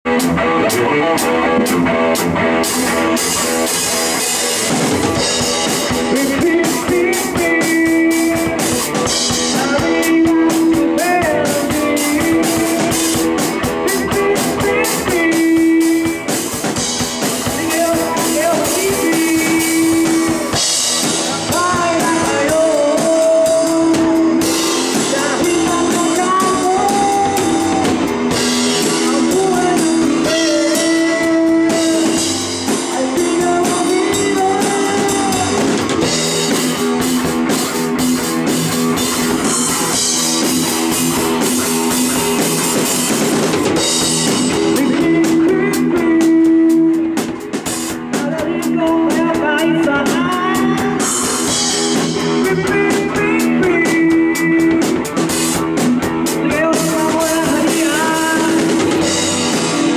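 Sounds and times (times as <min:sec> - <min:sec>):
bass guitar: 0:00.0 - 0:59.9
drum kit with cymbals: 0:00.0 - 0:59.9
electric guitars: 0:00.0 - 0:59.9
man singing: 0:00.1 - 0:59.9.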